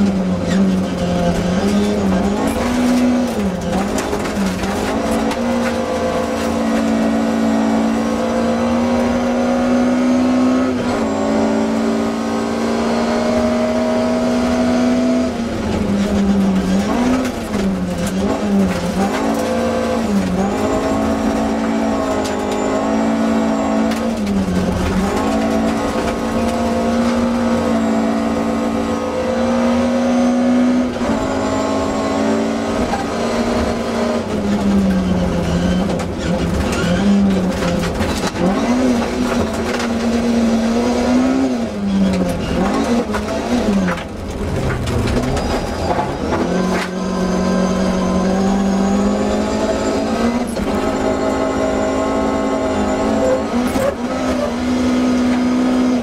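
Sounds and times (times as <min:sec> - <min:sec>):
car engine at high revs: 0:00.0 - 0:56.0
gravel and tyre noise: 0:00.0 - 0:56.0.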